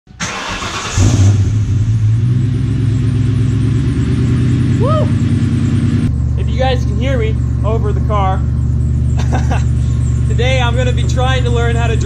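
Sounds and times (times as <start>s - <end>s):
car engine starting and idling: 0.1s - 12.0s.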